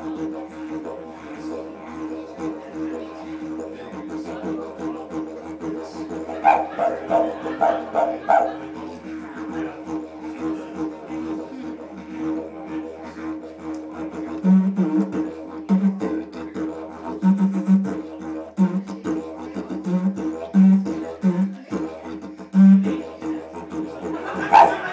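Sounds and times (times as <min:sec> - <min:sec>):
didgeridoo drone: 0:00.0 - 0:24.9.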